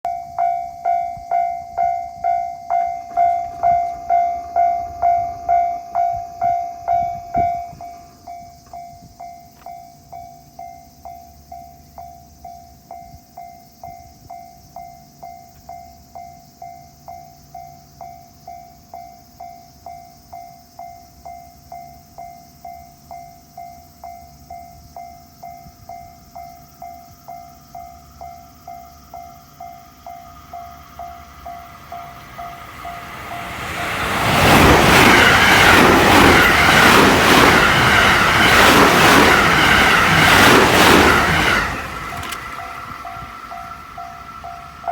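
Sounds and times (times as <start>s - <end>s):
level crossing warning bell: 0.0s - 44.9s.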